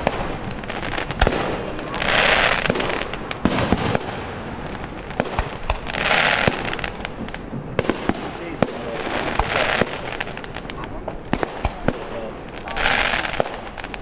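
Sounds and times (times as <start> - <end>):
dense fireworks hiss: 0.0 - 14.0
fireworks bursting bangs: 0.0 - 14.0.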